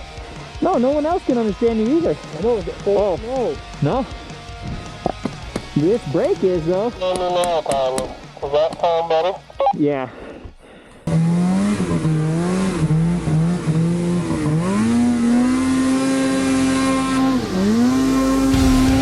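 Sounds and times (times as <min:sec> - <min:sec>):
snowmobile engine running: 0:00.0 - 0:09.4, 0:11.1 - 0:19.0.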